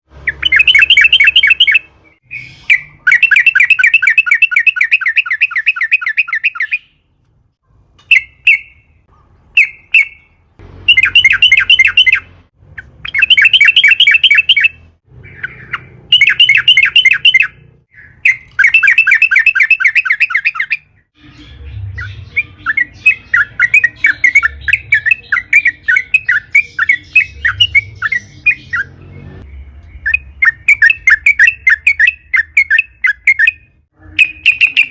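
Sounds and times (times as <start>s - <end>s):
bird singing chattering phrases: 0.3s - 7.0s, 9.6s - 34.9s.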